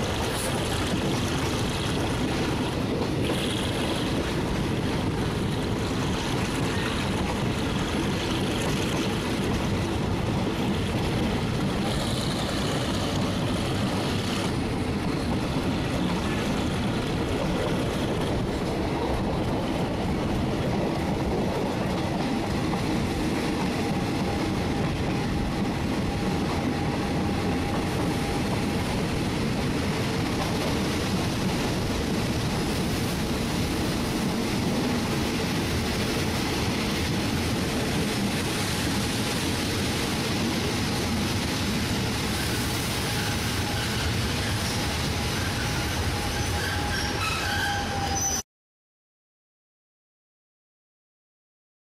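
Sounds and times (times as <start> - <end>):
train wheels rumbling on rail: 0.0 - 48.4.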